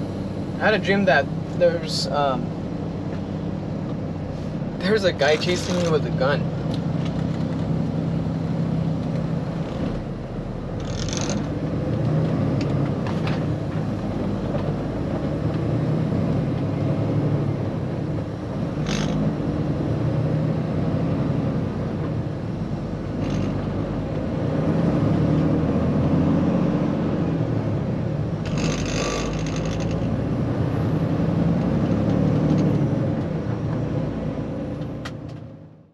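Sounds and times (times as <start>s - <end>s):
truck engine and road noise: 0.0s - 35.9s.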